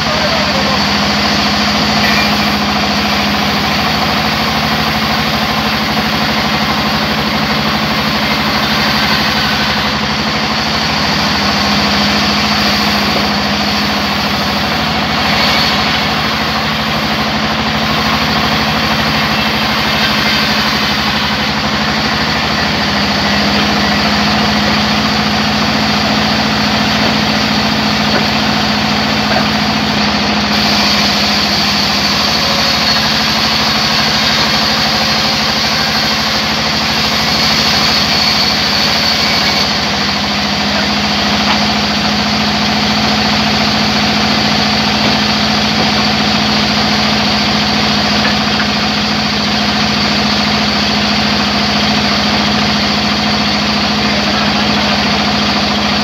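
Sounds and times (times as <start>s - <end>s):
band saw cutting log: 0.0s - 56.0s
higher whine: 0.0s - 56.0s.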